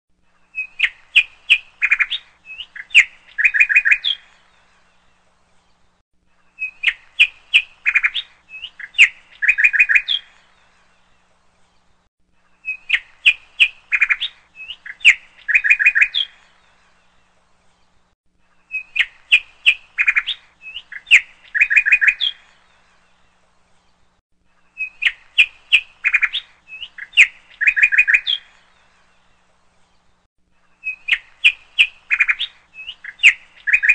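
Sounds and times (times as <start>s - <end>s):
songbird chirping and trilling: 0.3s - 33.9s.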